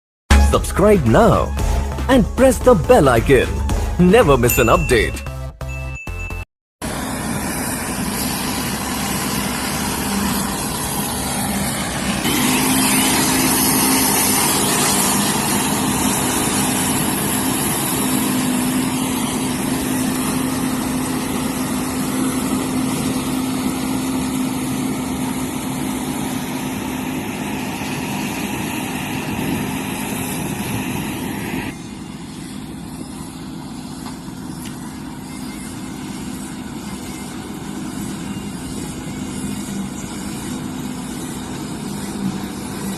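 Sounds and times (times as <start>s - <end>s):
combine harvester running: 0.3s - 5.1s, 6.8s - 42.9s.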